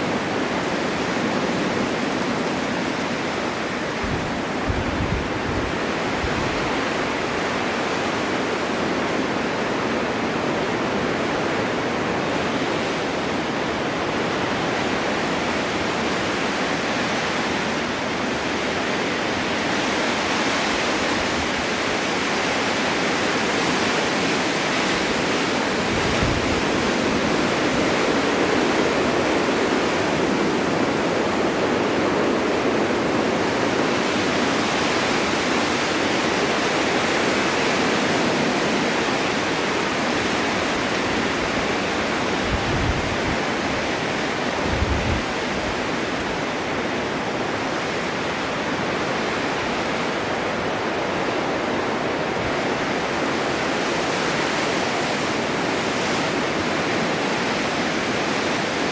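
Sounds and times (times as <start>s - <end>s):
storm wind blowing: 0.0s - 58.9s.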